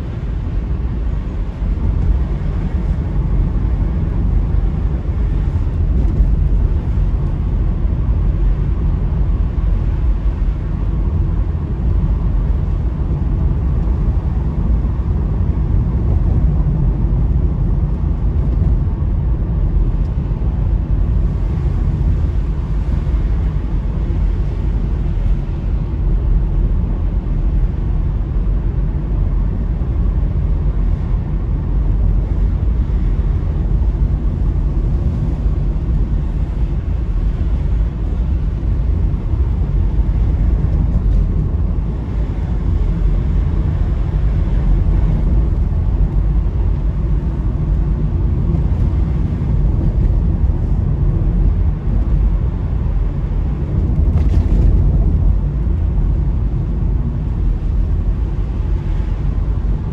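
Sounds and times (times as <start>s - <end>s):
car cabin engine and tyre noise: 0.0s - 59.9s.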